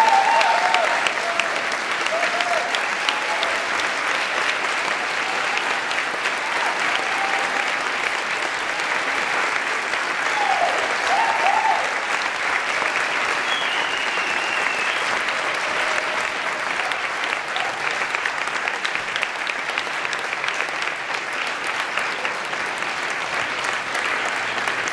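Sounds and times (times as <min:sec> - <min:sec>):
audience applauding: 0:00.0 - 0:24.9.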